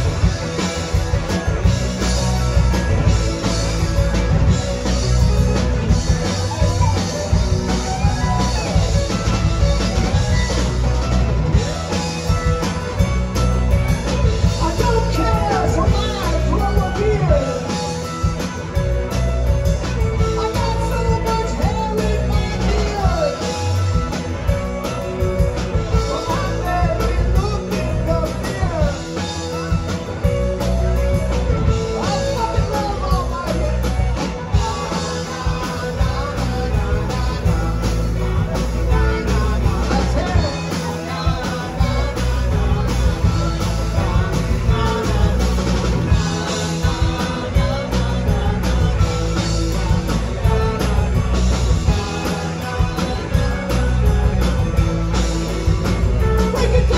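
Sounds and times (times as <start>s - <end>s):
bass: 0.0s - 56.9s
drum kit: 0.0s - 56.9s
electric guitars: 0.0s - 56.9s.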